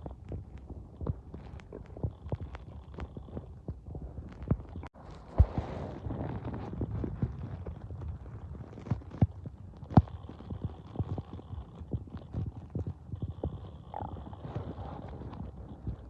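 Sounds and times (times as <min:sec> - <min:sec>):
stomach gurgling: 0:00.0 - 0:16.0.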